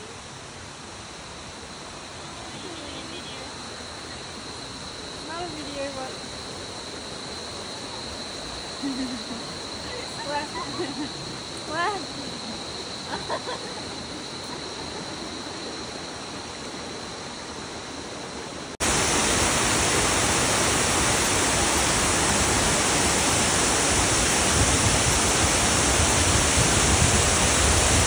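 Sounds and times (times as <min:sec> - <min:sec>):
faint high whine: 0:00.0 - 0:28.0
waterfall rushing: 0:00.0 - 0:28.0.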